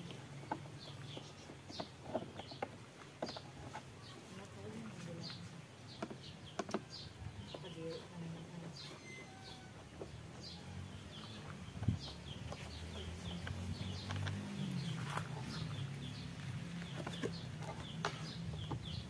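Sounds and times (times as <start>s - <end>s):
birds chirping: 0.0s - 19.0s
chickens clucking: 0.0s - 19.0s.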